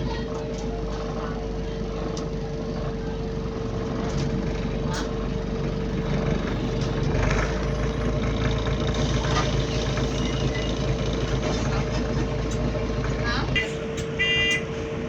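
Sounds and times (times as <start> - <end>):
bus engine rumble: 0.0 - 15.0
rattles in bus cabin: 0.0 - 15.0.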